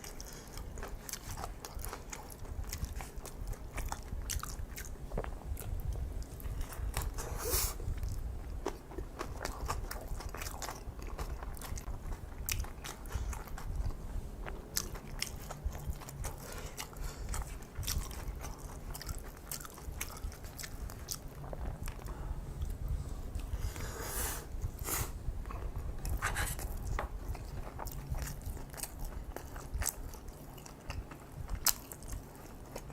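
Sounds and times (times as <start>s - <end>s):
person chewing crunchy food: 0.0s - 23.8s, 25.4s - 32.9s.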